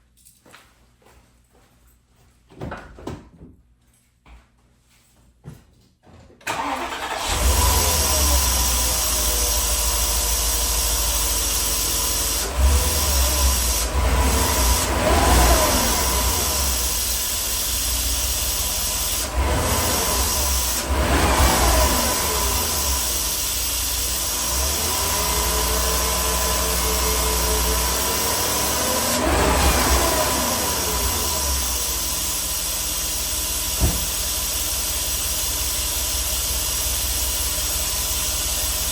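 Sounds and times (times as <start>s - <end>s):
car engine revving: 6.5s - 38.9s.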